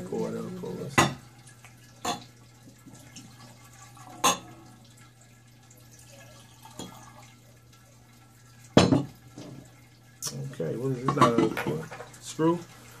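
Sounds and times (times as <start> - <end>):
liquid trickling into glass: 0.0 - 13.0.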